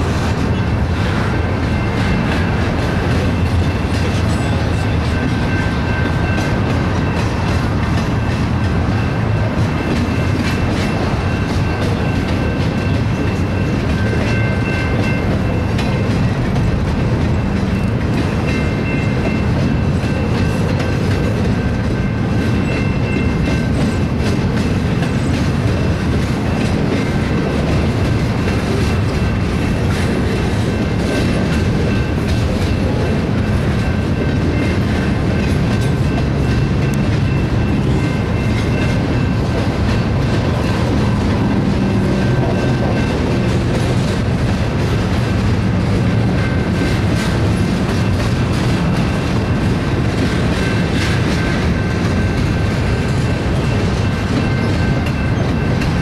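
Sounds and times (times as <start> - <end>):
freight train rumble: 0.0 - 56.0
wheels clacking over rail joints: 0.0 - 56.0.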